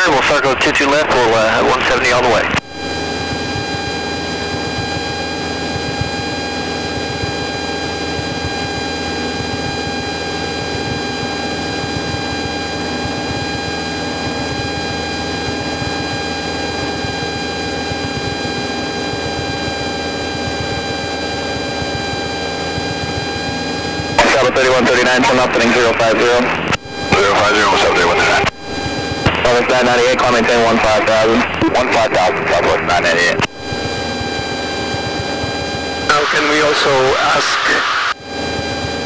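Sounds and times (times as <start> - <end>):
airplane engine and propeller droning: 0.0 - 39.0
steady high whine: 0.0 - 39.0.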